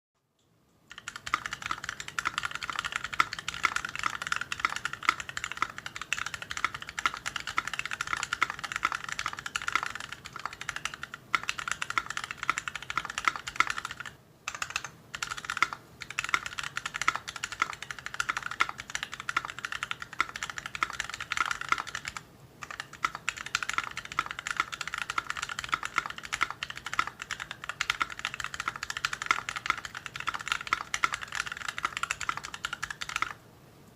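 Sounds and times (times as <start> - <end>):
fast typing on mechanical keyboard: 0.9 - 33.4.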